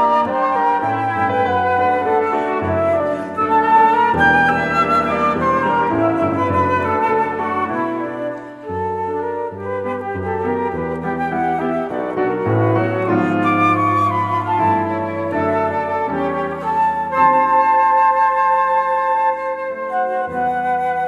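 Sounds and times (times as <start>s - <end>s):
flute slow melody: 0.0s - 21.0s
piano accompaniment: 0.0s - 21.0s.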